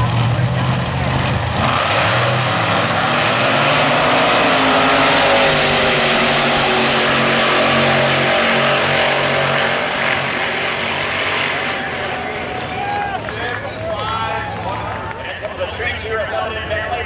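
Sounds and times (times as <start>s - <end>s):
drag car engines at full throttle: 0.0s - 17.0s.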